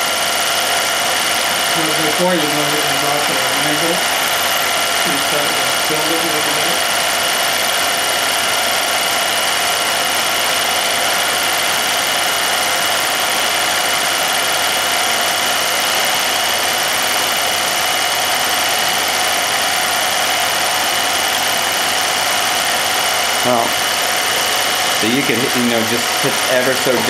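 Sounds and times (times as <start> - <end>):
film projector whirring: 0.0 - 27.0.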